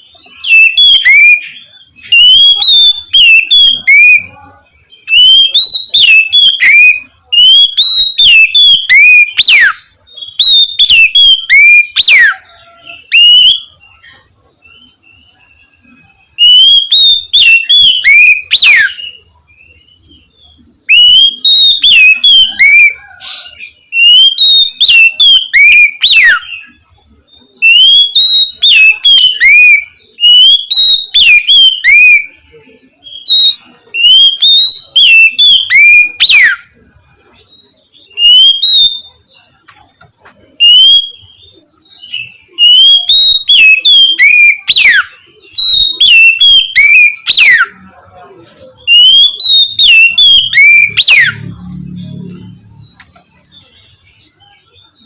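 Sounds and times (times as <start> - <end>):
songbird whistling song: 0.0 - 55.0.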